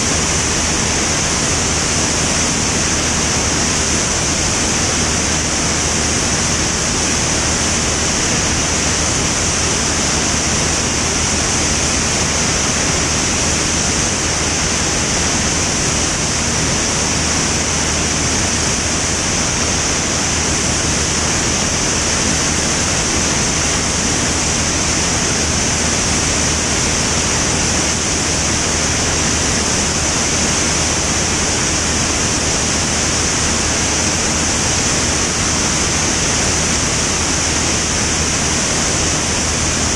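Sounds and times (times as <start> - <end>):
aircraft engine and propeller drone: 0.0 - 39.9
rush of airflow: 0.0 - 39.9.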